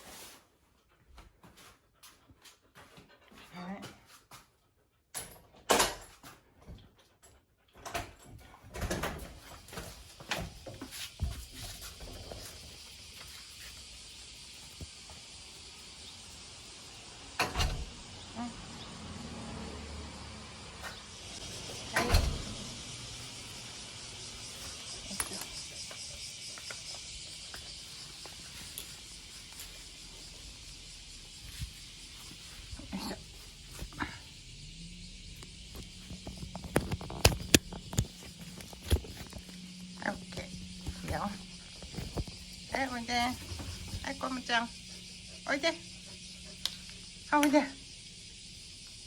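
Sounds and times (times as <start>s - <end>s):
high-pitched insect chorus: 9.0s - 49.0s.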